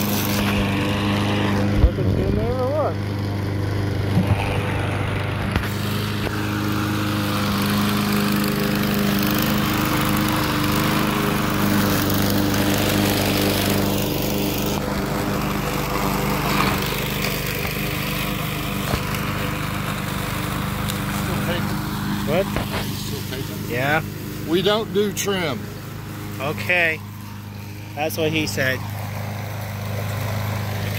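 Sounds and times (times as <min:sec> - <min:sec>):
lawn mower engine running: 0:00.0 - 0:30.9.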